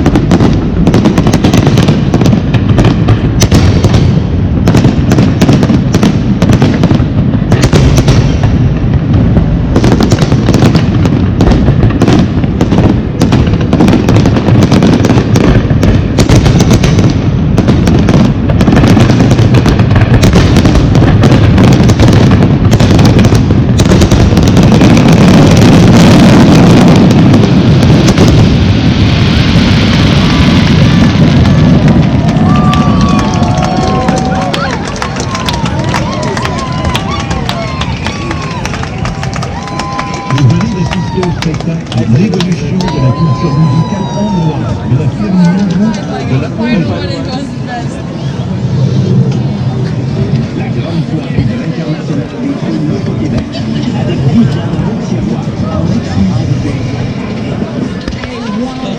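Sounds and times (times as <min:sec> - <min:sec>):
fireworks bursting and crackling: 0:00.0 - 0:58.9.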